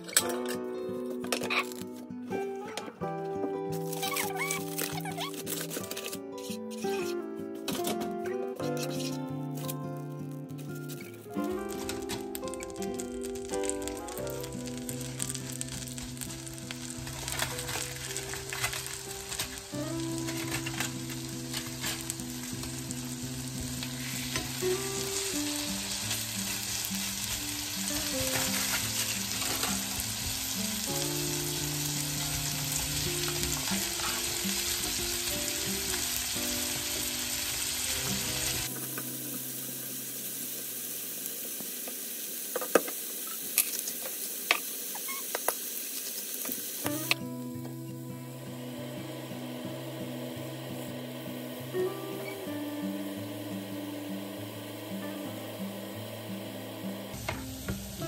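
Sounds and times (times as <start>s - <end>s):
background music: 0.0s - 40.4s, 46.9s - 58.0s
steaks sizzling in a frying pan: 8.6s - 58.0s.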